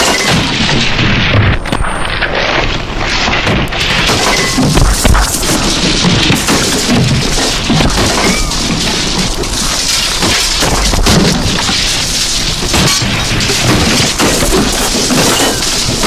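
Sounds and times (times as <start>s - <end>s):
crackling and crashing noise: 0.0s - 16.0s.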